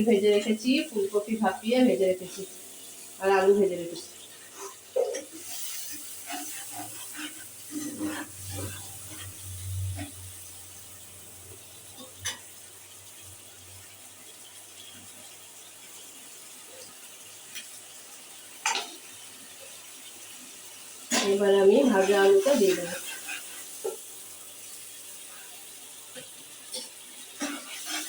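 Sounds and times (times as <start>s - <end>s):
gravy simmering with low hiss: 0.0s - 28.0s.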